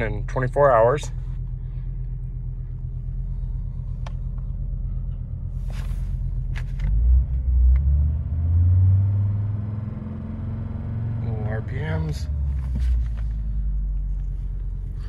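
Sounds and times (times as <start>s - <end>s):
car engine idling: 0.0s - 7.8s, 9.2s - 15.0s.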